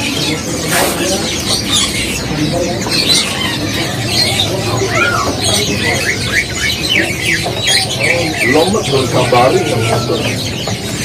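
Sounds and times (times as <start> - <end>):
murmur of background voices: 0.0 - 11.0
songbirds chirping: 0.0 - 11.0.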